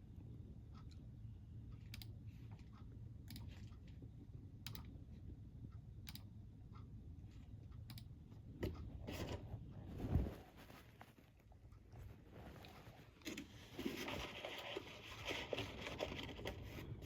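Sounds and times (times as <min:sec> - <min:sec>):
low steady rumble: 0:00.0 - 0:14.1.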